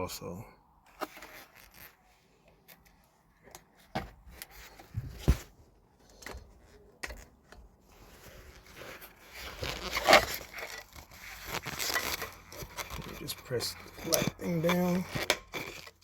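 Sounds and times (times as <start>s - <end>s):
scraping and rustling handling: 0.8s - 16.0s.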